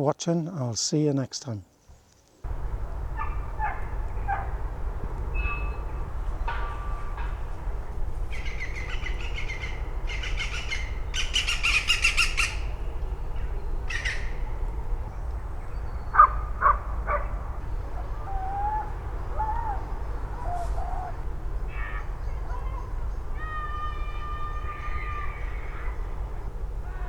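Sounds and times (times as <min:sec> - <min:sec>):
birds trilling song: 0:01.6 - 0:27.0
sharp bird calls: 0:01.7 - 0:27.0
steady low rumble: 0:02.4 - 0:27.0.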